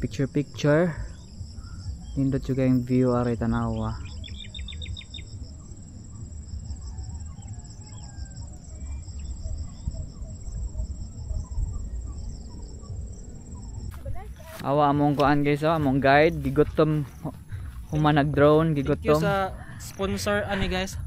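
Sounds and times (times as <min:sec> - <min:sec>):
insects chirring: 0:00.0 - 0:21.0
wind rumbling on microphone: 0:00.0 - 0:21.0.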